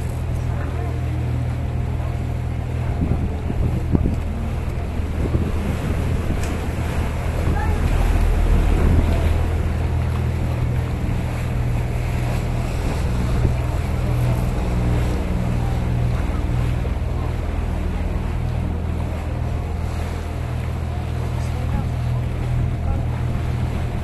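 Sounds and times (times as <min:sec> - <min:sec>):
boat motor humming: 0:00.0 - 0:24.0
water washing along hull: 0:00.0 - 0:24.0
wind on microphone: 0:02.0 - 0:24.0.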